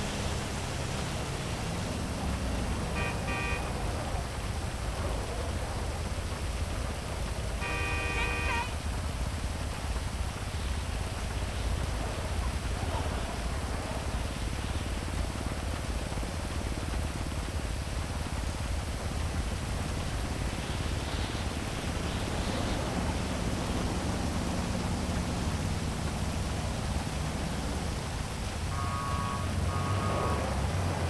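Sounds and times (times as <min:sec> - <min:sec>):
city traffic rumble: 0:00.0 - 0:31.0
heavy rain: 0:00.0 - 0:31.0
vehicle engine drone: 0:00.0 - 0:31.0.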